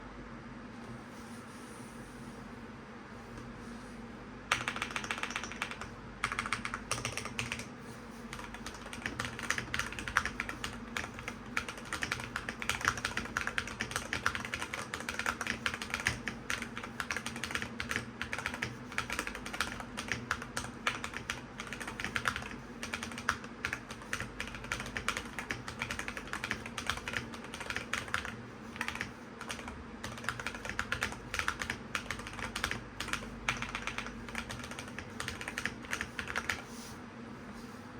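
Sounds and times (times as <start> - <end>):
fast keyboard typing: 4.5 - 7.7, 8.3 - 36.6.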